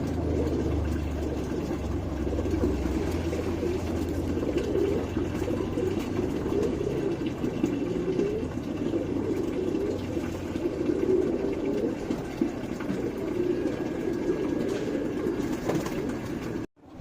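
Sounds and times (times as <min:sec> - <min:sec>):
pigeons cooing: 0:00.0 - 0:16.7
low hum: 0:00.0 - 0:17.0.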